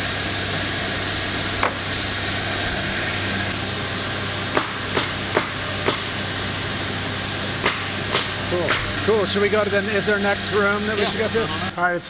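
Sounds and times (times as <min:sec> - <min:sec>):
cnc router running: 0:00.0 - 0:12.0.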